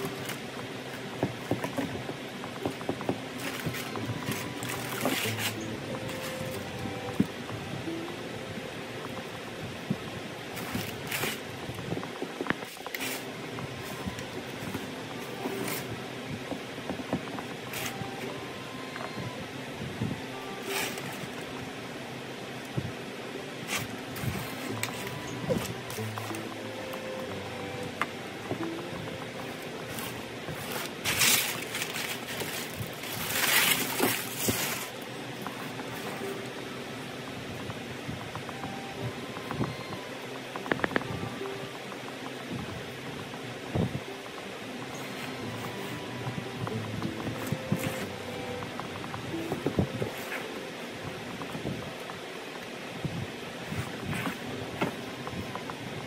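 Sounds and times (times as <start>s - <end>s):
steady room hum: 0.0s - 56.0s.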